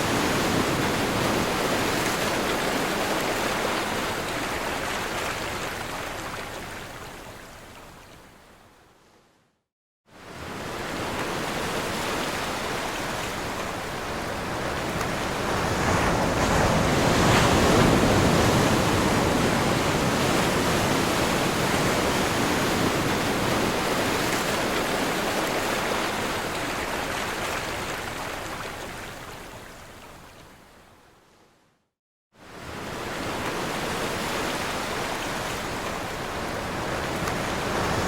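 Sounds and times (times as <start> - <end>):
ocean waves crashing on shore: 0.0 - 7.0, 10.2 - 29.9, 32.4 - 38.0.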